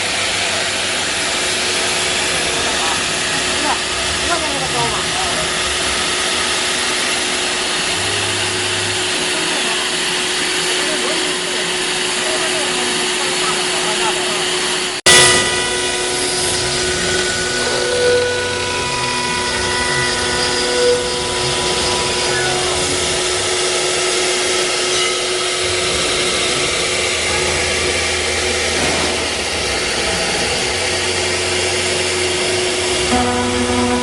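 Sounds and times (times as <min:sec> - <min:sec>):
cnc router spindle whine: 0:00.0 - 0:34.0.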